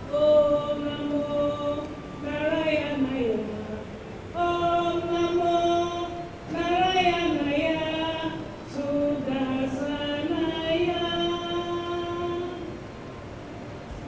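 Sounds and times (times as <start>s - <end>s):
woman singing long notes: 0.0s - 12.8s.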